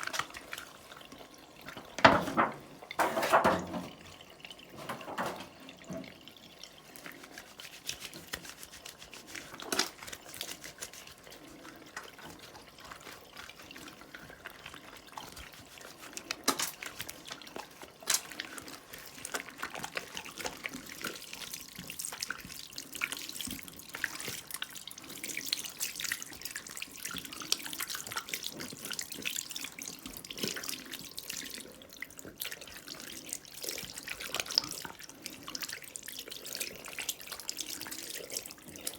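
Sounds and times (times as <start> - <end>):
tap water running and splashing: 0.0 - 38.9
water dripping: 0.0 - 38.9.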